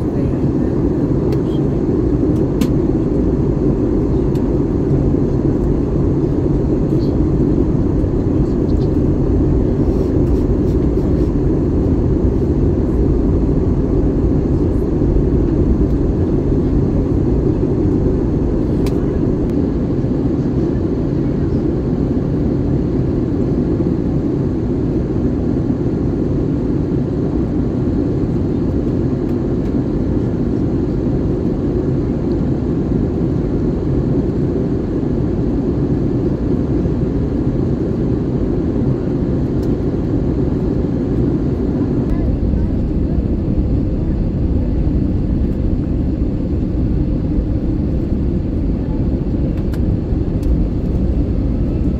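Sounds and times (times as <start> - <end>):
airplane cabin engine drone: 0.0 - 51.9.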